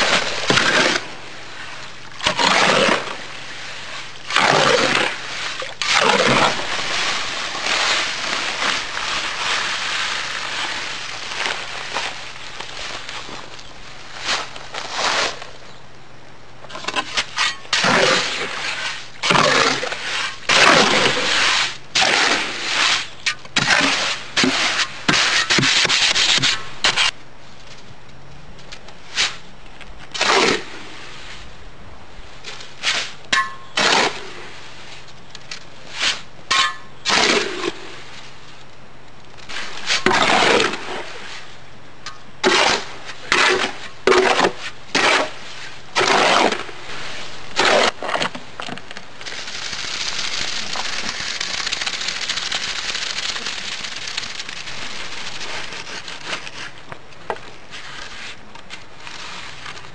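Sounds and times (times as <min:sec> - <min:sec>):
shovel scraping through wet concrete: 0:00.0 - 0:13.2, 0:14.1 - 0:15.5, 0:16.8 - 0:27.2, 0:29.0 - 0:29.4, 0:30.1 - 0:31.4, 0:32.6 - 0:35.0, 0:35.8 - 0:38.3, 0:39.4 - 0:41.6, 0:42.4 - 0:48.3, 0:49.2 - 0:56.8, 0:57.7 - 0:59.9.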